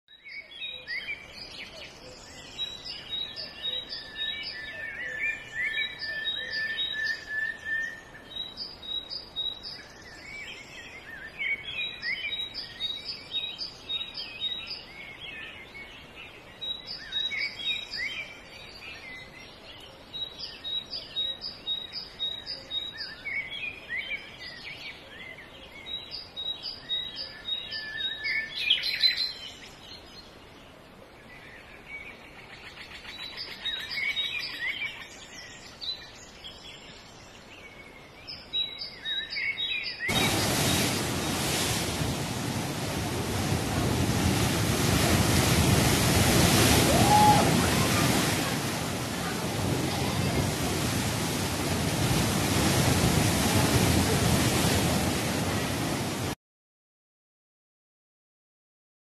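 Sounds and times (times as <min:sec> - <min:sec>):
birds singing: 0:00.1 - 0:56.2.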